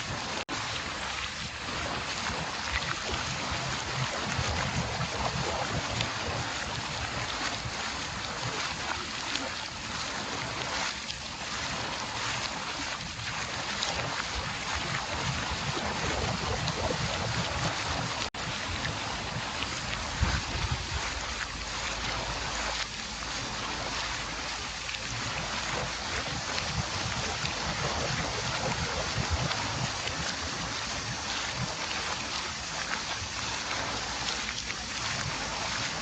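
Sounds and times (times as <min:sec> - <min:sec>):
water mill wheel turning: 0:00.0 - 0:36.0
water splashing and rushing: 0:00.0 - 0:36.0.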